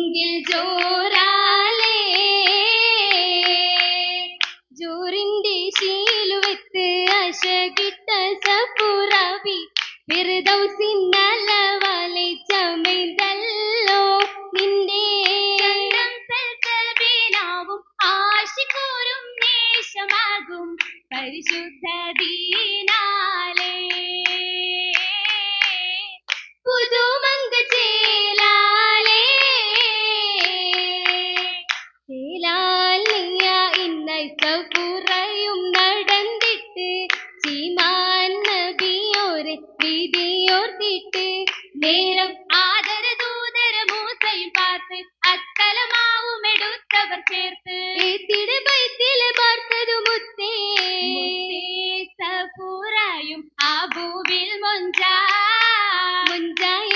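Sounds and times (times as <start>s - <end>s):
rhythmic hand clapping: 0.0s - 52.6s, 53.5s - 56.9s
girls singing together: 0.0s - 56.9s.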